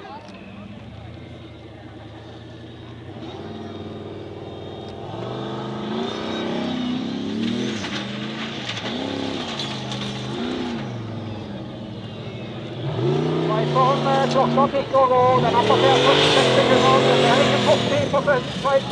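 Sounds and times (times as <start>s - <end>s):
buggy engine revving: 0.0s - 18.9s.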